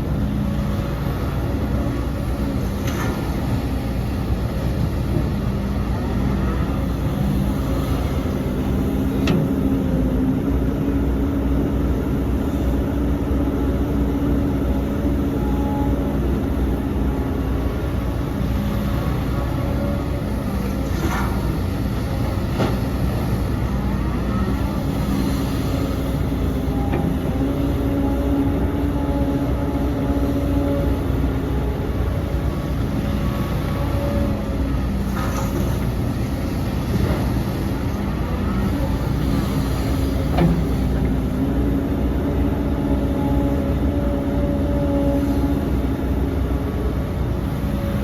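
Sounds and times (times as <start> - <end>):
diesel machinery engine: 0.0 - 48.0.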